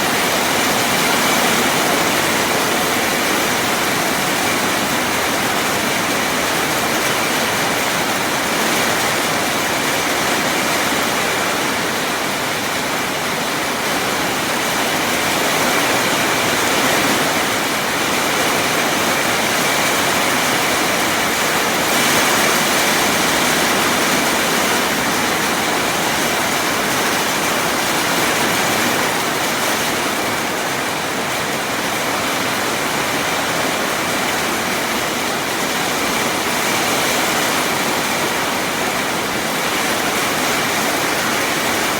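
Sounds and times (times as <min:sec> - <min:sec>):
heavy rain in strong wind: 0:00.0 - 0:41.9.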